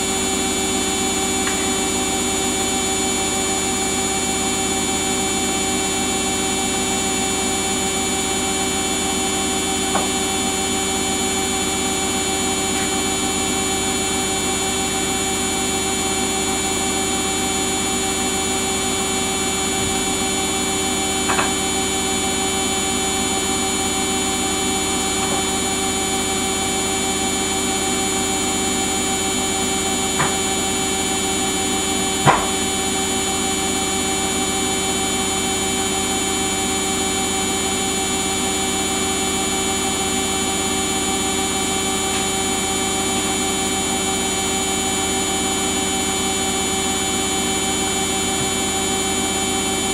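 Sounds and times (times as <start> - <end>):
washing machine motor whine: 0.0 - 49.9.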